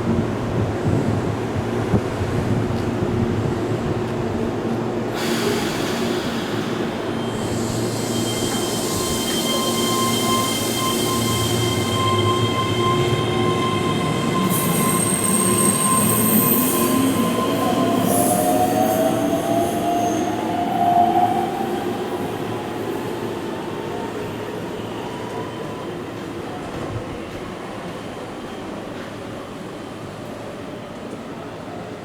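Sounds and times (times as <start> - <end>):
train wheels squealing on rails: 5.1 - 30.9.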